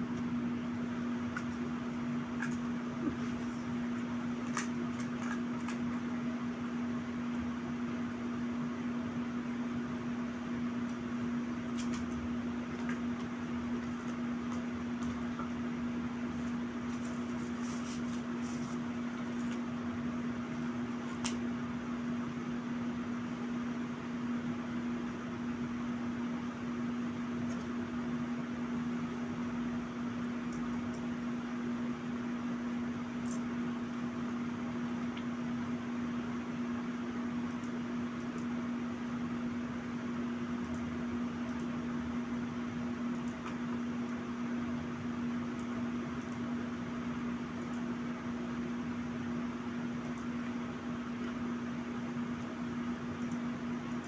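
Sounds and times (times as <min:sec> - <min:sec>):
machine humming: 0:00.0 - 0:54.0.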